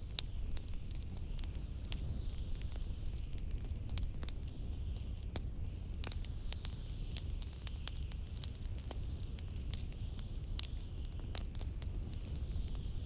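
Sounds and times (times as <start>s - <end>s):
fireplace crackling and popping: 0.0s - 13.0s.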